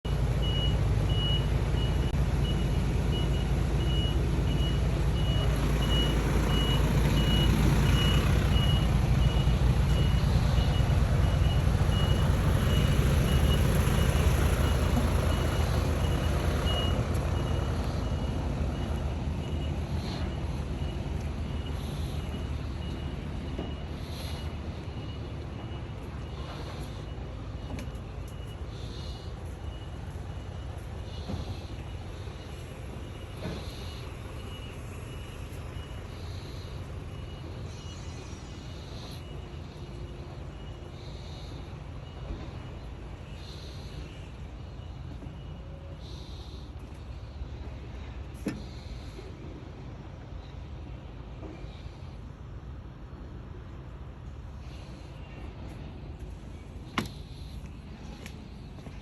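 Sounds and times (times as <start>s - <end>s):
heavy engine rumble: 0.0s - 59.0s
reversing alarm beeping: 0.1s - 59.0s.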